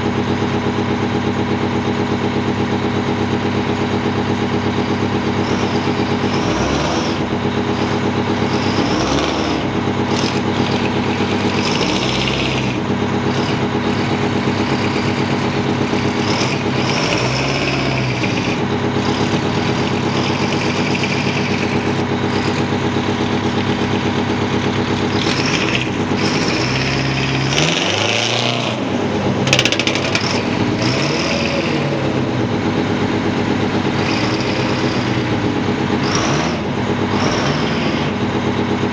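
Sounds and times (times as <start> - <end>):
diesel engine idling: 0.0 - 38.9
diesel engine revving: 0.0 - 38.9
sharp clatter: 3.8 - 38.6.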